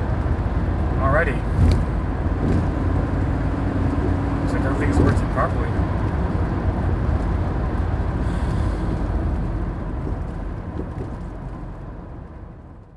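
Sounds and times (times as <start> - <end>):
car engine and road rumble: 0.0 - 12.9.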